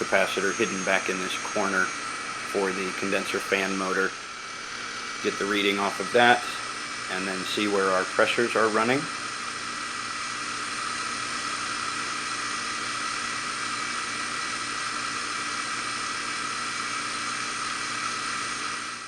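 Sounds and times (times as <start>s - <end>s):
heat pump unit running: 0.0s - 19.0s.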